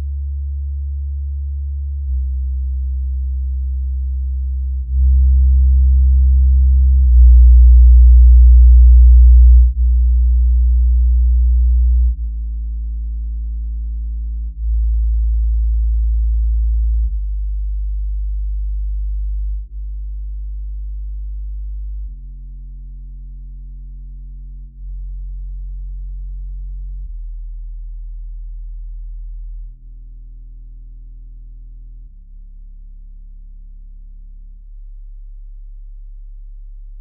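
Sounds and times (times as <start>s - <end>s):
deep bass test tones: 0.0s - 37.0s.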